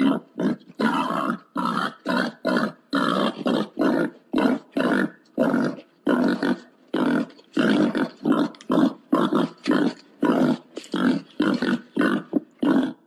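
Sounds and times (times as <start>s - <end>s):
pig grunting: 0.0s - 13.0s.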